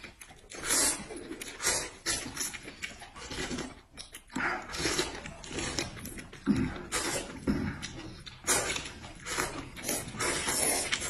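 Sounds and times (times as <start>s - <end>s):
people chewing: 0.0s - 11.0s
people slurping noodles: 0.0s - 11.0s.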